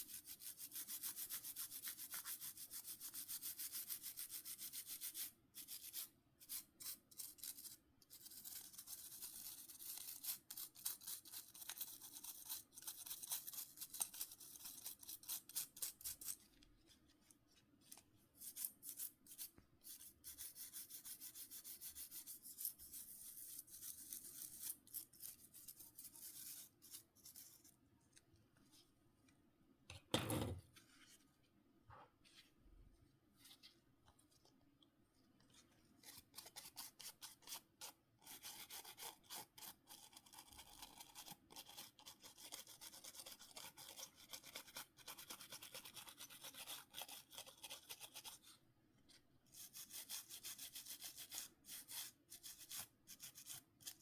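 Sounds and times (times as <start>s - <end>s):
small brush scrubbing: 8.2s - 29.4s, 30.7s - 54.0s.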